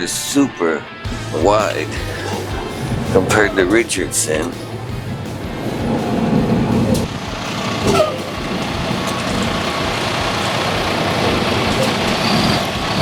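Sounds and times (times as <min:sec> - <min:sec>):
road noise: 0:00.0 - 0:13.0
truck diesel engine: 0:01.1 - 0:13.0.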